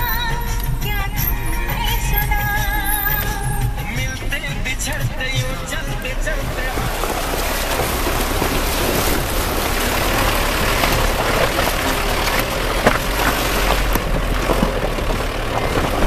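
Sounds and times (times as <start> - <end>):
car body rattling: 0.0 - 16.0
car engine running: 0.0 - 16.0
knocks and clatters: 0.0 - 16.0
tyres rumbling on loose stone: 0.0 - 16.0.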